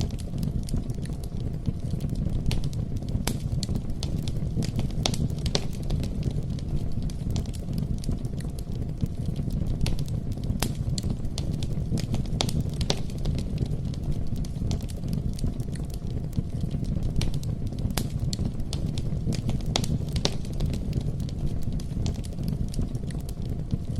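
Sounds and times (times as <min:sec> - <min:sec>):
fire popping and crackling: 0:00.0 - 0:23.9
rumble of flames: 0:00.0 - 0:23.9.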